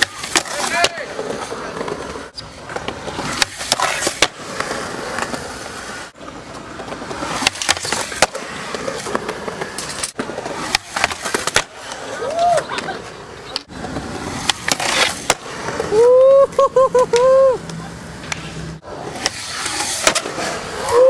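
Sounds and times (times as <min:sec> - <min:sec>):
skateboard deck clacking: 0:00.0 - 0:16.0, 0:17.0 - 0:21.0
skateboard wheels rolling on concrete: 0:00.0 - 0:21.0.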